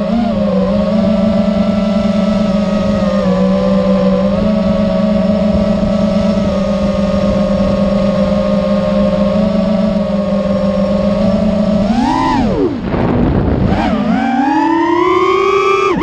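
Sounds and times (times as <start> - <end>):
drone motor whining: 0.0 - 16.0.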